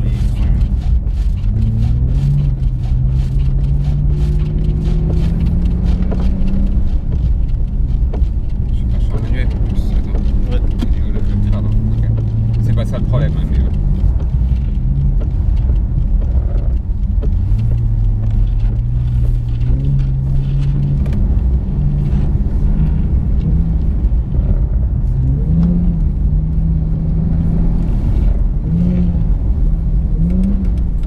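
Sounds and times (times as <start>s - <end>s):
car engine revving: 0.0s - 31.0s
steady low rumble: 0.0s - 31.0s.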